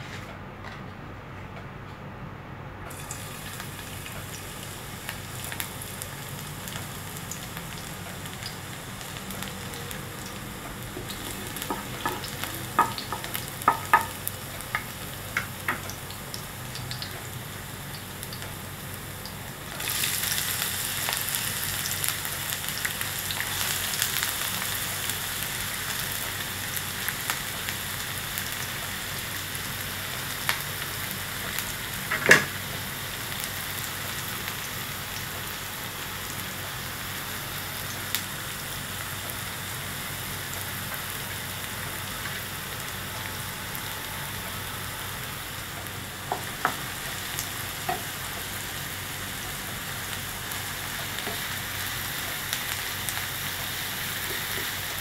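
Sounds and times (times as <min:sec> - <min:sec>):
garlic sizzling in oil: 0:02.9 - 0:55.0.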